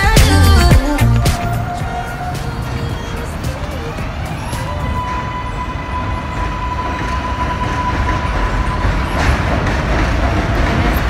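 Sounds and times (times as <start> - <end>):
subway train rumbling: 0.0 - 11.0
high whine of train: 0.8 - 11.0.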